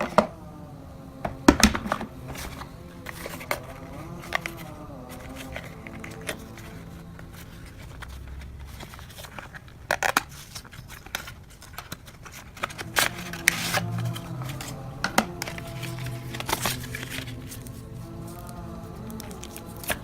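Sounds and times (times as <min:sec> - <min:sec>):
background music: 0:00.0 - 0:09.6, 0:12.6 - 0:20.0
packaging crinkling and tearing: 0:02.2 - 0:20.0.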